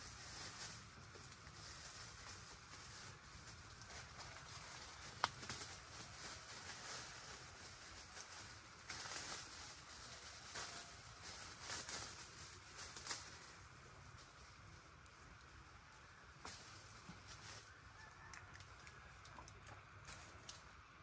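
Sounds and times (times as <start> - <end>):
leaves and branches rustling: 0.0 - 21.0.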